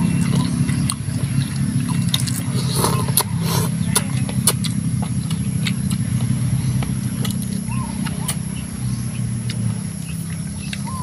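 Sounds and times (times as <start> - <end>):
food being chewed: 0.0 - 8.5, 9.4 - 11.0
low engine hum: 0.0 - 11.0.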